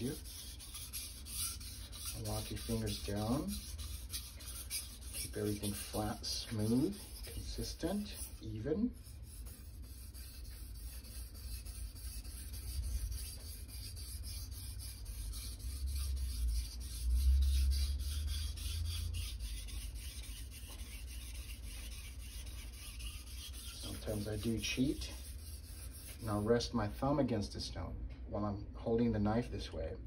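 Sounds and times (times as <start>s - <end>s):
knife rubbing on whetstone: 0.0s - 26.4s.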